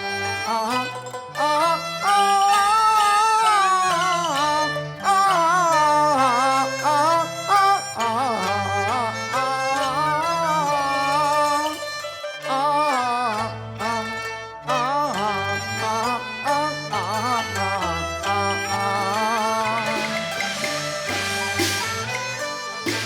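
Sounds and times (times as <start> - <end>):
opera music with wavering melody: 0.0 - 23.0.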